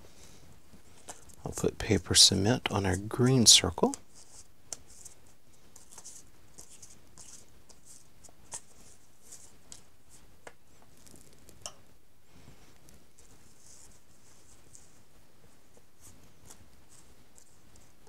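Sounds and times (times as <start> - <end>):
soft scratchy brush strokes: 0.7 - 11.5, 12.3 - 18.0.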